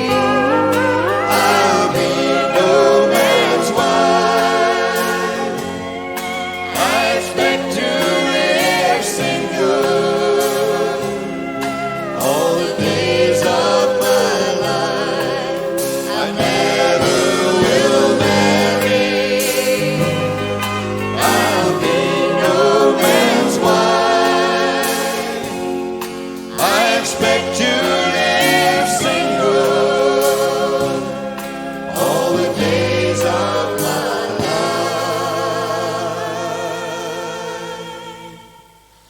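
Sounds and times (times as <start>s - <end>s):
country band playing live: 0.0s - 37.4s
harmony vocals singing: 0.0s - 39.0s.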